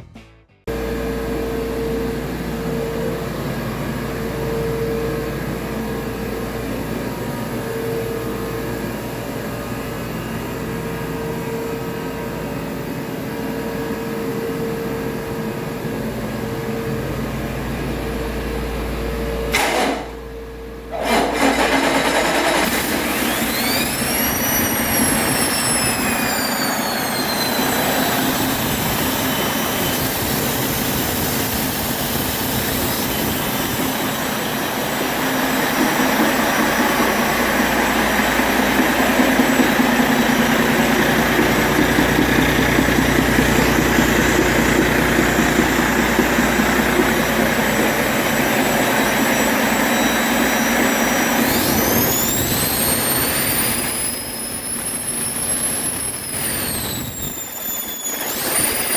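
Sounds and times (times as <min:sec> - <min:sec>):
diesel engine running: 0:00.0 - 0:57.4
high whine: 0:00.0 - 0:58.9.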